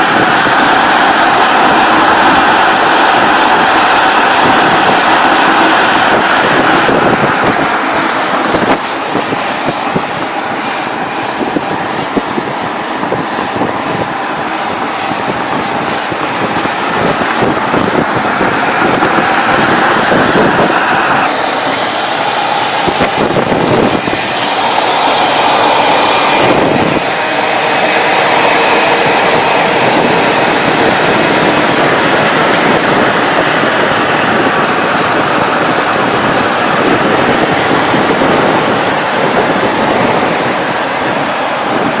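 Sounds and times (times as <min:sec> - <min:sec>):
truck tyre and wind noise: 0:00.0 - 0:42.0.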